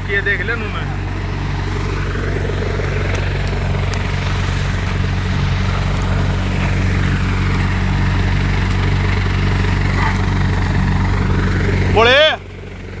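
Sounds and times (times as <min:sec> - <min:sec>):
thresher rushing noise: 0:00.0 - 0:13.0
tractor engine drone: 0:00.0 - 0:13.0.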